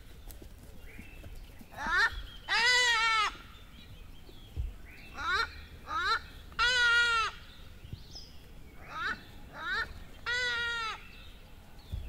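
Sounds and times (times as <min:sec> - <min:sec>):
bird calling: 0:00.9 - 0:12.0.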